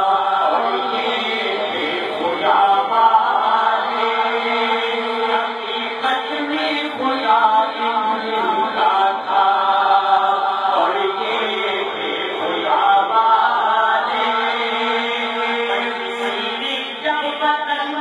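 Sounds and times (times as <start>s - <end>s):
men chanting devotional melody: 0.0s - 18.0s.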